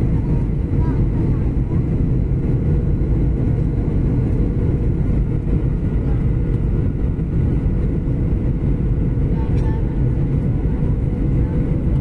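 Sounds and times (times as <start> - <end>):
jet airliner cabin roar: 0.0 - 12.0.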